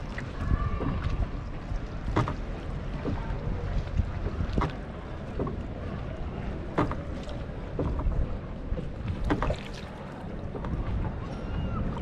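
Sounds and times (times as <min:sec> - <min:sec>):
water splashing at oar and hull: 0:00.0 - 0:12.0
wind rumble on microphone: 0:00.0 - 0:12.0.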